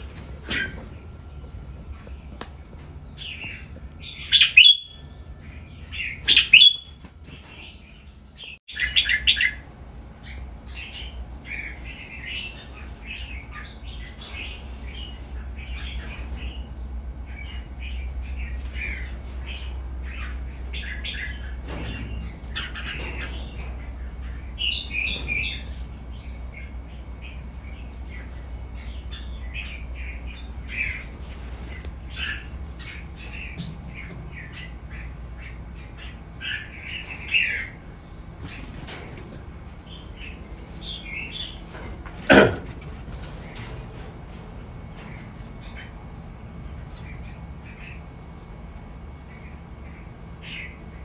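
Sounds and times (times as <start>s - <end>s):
birds chirping and calling: 0.0s - 51.0s.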